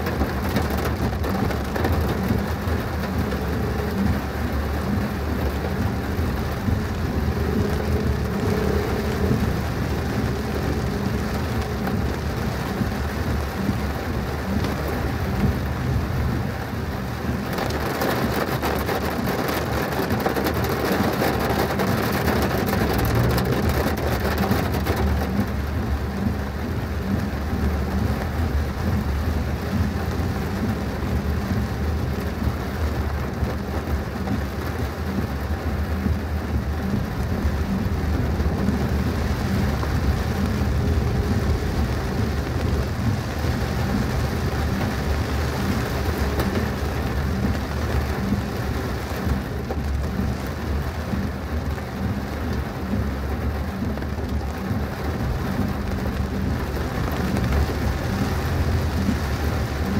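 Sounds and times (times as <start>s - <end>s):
heavy rain: 0.0s - 59.9s
low rumble: 0.0s - 59.9s.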